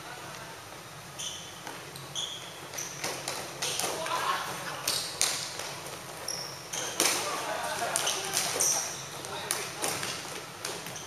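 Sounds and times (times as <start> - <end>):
shoes squeaking on floor: 1.1 - 11.0.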